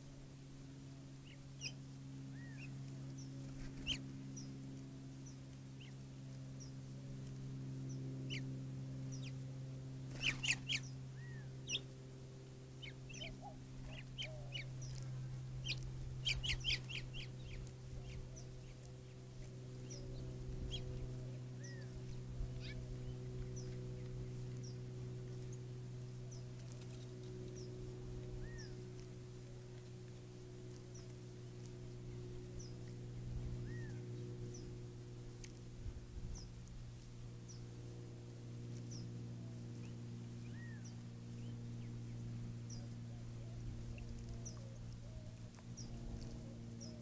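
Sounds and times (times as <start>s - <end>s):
steady low hum: 0.0s - 47.0s
birds chirping: 1.1s - 47.0s.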